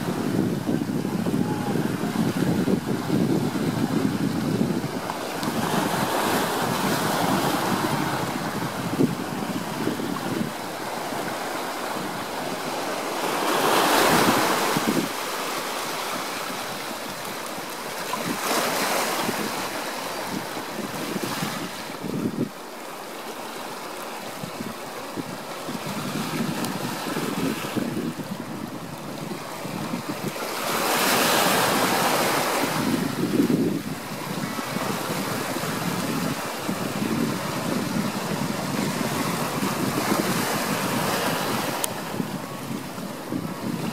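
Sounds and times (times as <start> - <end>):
wind buffeting microphone: 0.0 - 22.7, 24.2 - 43.9
waves on rocky shore: 0.0 - 43.9.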